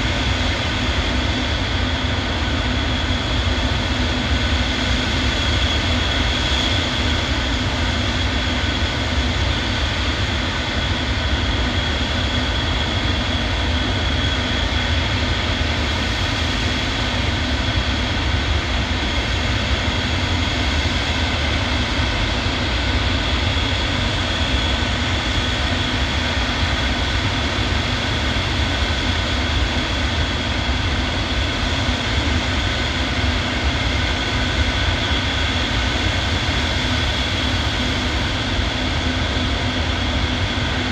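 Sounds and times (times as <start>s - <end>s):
aircraft engines droning: 0.0s - 40.9s.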